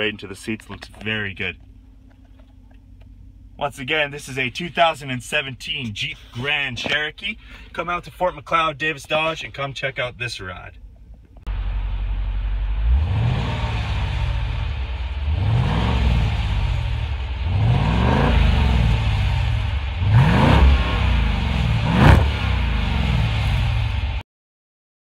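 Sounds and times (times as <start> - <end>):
car engine idling and revving: 0.0 - 24.2.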